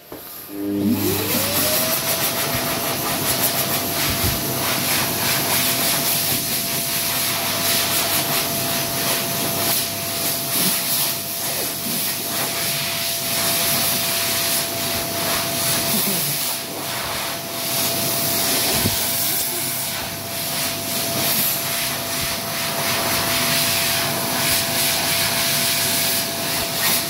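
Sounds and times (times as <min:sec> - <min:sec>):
hand dryer blowing: 0:00.0 - 0:27.0.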